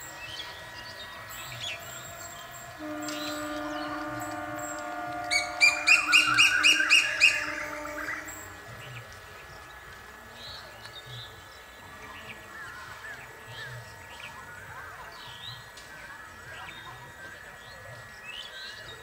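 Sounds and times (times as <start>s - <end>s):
birds chirping: 0.0s - 19.0s
crowd murmur: 0.0s - 19.0s
faint high hum: 0.0s - 19.0s.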